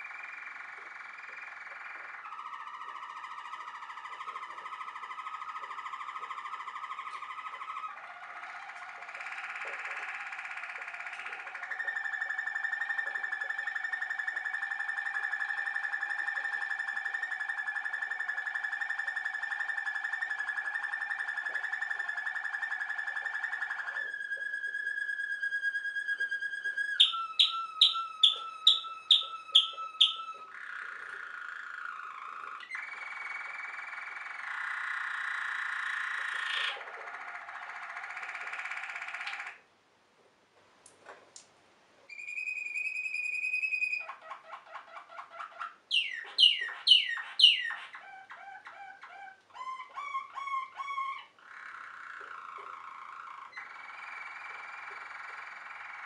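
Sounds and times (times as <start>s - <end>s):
canary singing: 0.0s - 39.7s, 42.1s - 56.0s.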